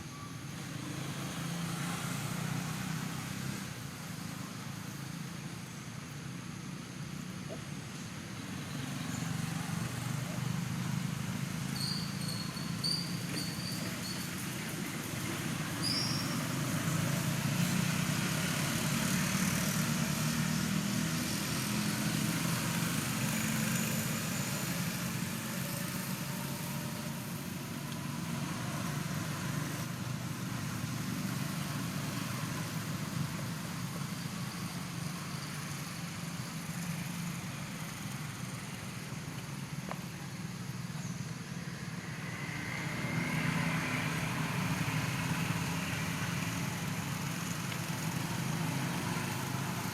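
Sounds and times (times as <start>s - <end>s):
constant hiss: 0.0s - 49.9s.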